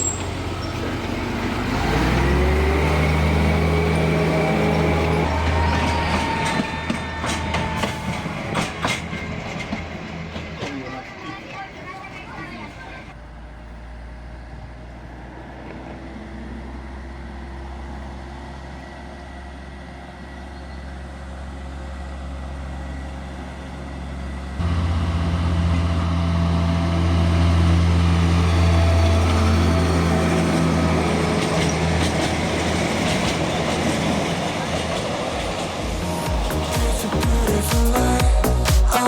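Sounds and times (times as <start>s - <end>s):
diesel locomotive engine droning: 0.0s - 39.0s.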